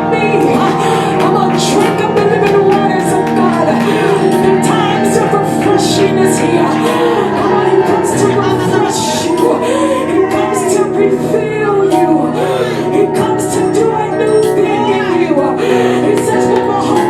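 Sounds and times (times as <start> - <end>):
worship music with singing: 0.0 - 17.0.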